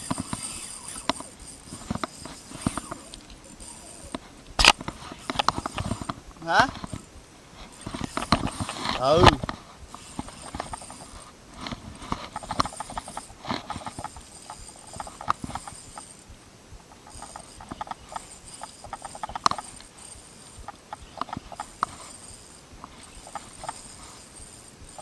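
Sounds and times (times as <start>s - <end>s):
fishing reel clicking: 0.0s - 25.0s.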